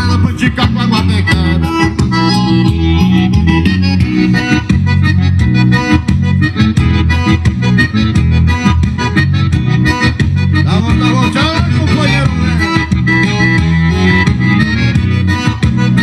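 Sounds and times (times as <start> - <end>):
accordion music through car speakers: 0.0 - 16.0.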